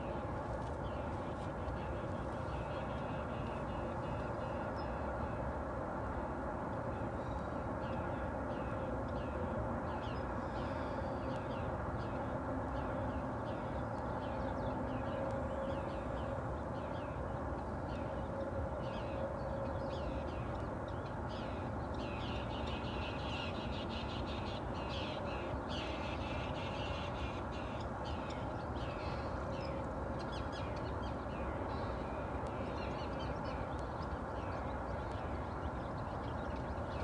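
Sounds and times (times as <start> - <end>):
low background hum: 0.0 - 37.0.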